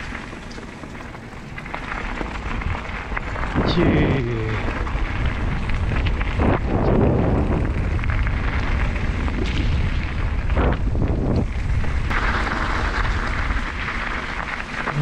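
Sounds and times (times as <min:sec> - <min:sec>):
bike rattling over rough trail: 0:00.0 - 0:15.0
wind buffeting microphone: 0:00.0 - 0:15.0.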